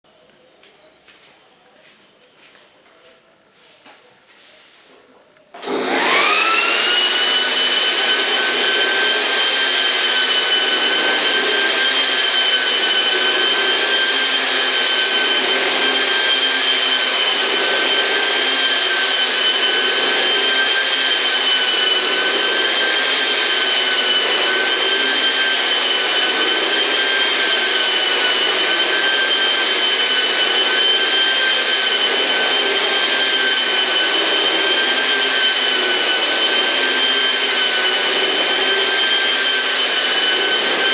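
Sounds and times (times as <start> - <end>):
floor polisher motor whining: 5.6 - 40.9.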